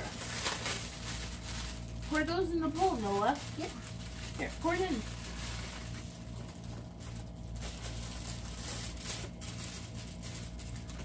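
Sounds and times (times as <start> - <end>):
plastic bag crinkling: 0.0 - 11.0
steady low hum: 0.0 - 11.0.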